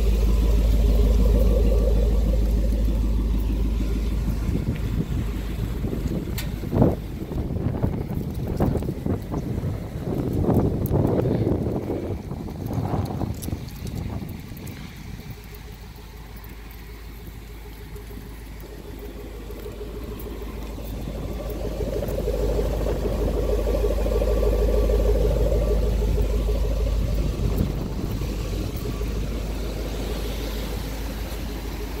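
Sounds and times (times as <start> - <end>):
truck engine idling: 0.0 - 32.0.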